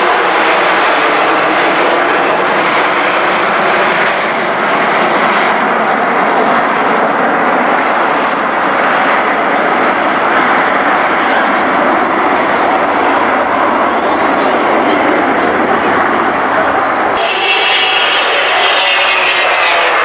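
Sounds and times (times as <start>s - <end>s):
jet airliner flying past: 0.0s - 20.0s.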